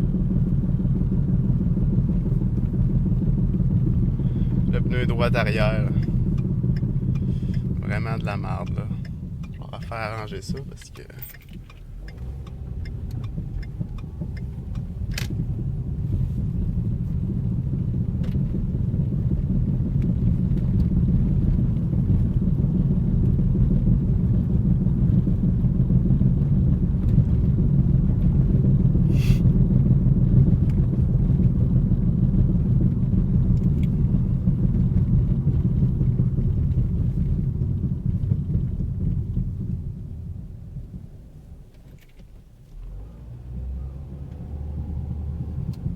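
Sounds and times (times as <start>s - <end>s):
low droning rumble from wheel: 0.0s - 45.9s.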